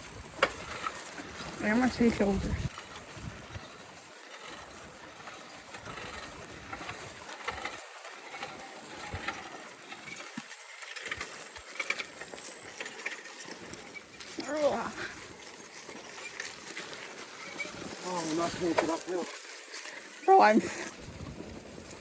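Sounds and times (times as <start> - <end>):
bicycle tyres crunching on dirt: 0.0 - 22.0
small rattles and clicks: 0.0 - 22.0.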